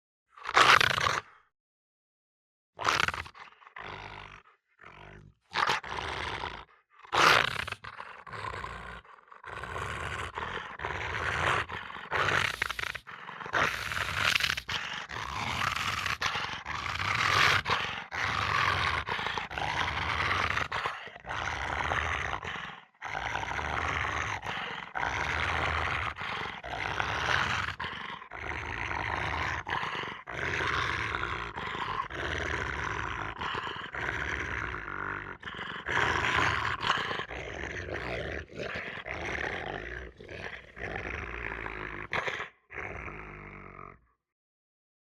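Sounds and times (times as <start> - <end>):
dog growling and snarling: 0.3 - 1.5, 2.8 - 44.2.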